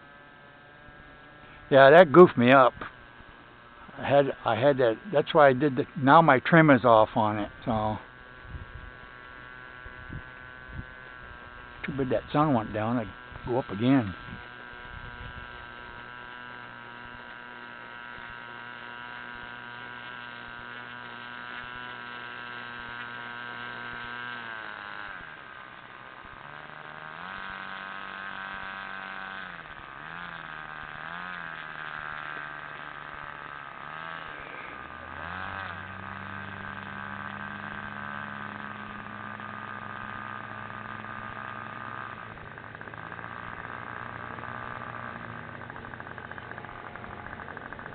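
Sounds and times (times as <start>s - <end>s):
small motor humming: 0.0s - 47.9s.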